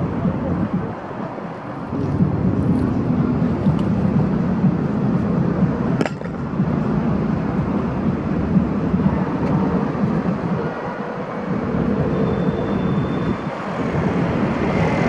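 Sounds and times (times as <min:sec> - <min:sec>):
cars passing: 0:00.0 - 0:15.0
rumble of engines and tyres: 0:00.0 - 0:15.0.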